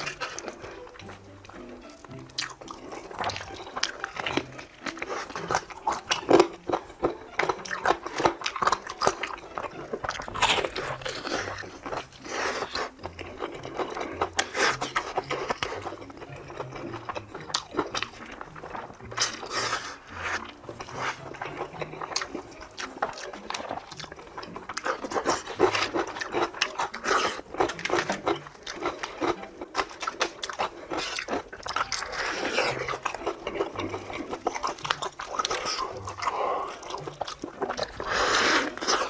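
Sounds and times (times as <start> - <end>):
crunching and chewing fried chicken: 0.0 - 39.0.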